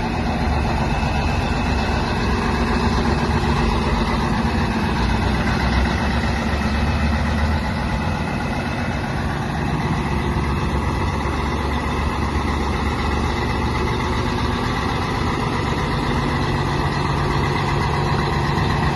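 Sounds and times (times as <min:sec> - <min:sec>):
truck diesel engine idling: 0:00.0 - 0:18.9.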